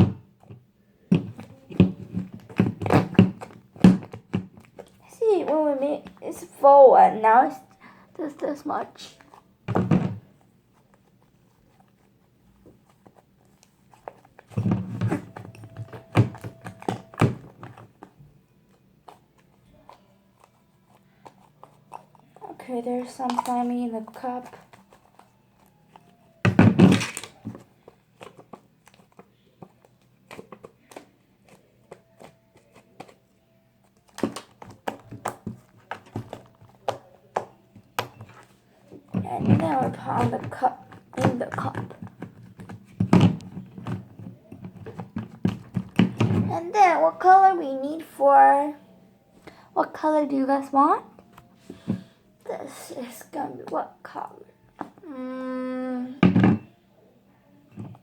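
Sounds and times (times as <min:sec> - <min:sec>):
slime squelching: 0:00.0 - 0:48.6.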